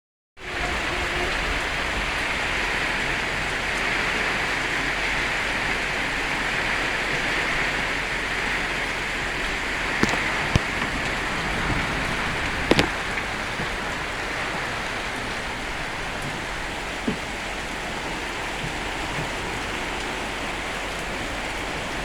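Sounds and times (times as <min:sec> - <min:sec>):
steady rain falling: 0:00.4 - 0:22.0.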